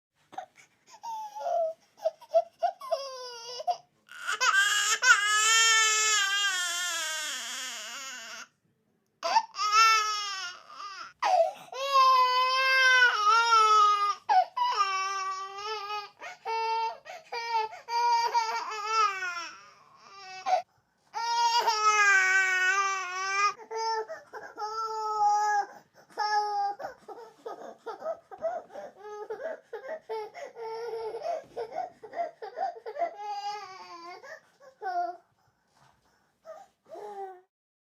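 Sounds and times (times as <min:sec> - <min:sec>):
baby crying: 0:00.4 - 0:08.5, 0:09.2 - 0:35.2.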